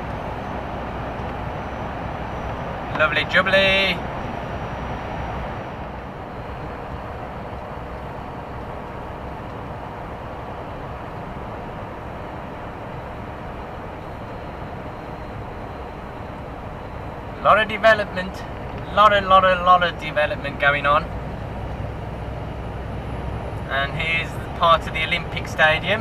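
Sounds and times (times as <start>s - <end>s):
lorry engine and road noise: 0.0s - 26.0s.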